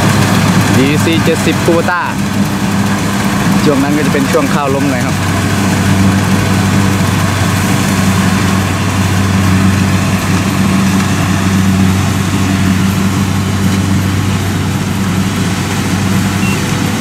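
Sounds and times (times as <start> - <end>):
diesel engine droning: 0.0 - 17.0
harvester machinery noise: 0.0 - 17.0.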